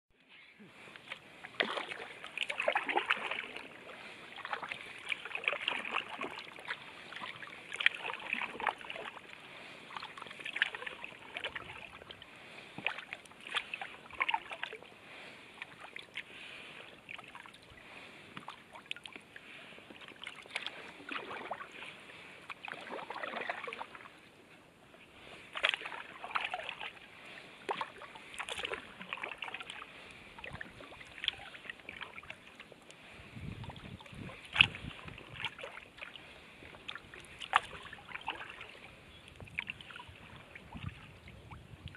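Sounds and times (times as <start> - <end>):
kayak paddle splashing: 0.2 - 41.9.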